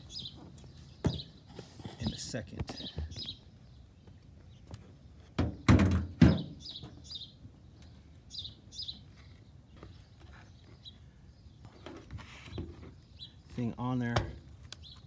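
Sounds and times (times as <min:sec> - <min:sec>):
small birds chirping: 0:00.0 - 0:05.6, 0:06.3 - 0:15.0.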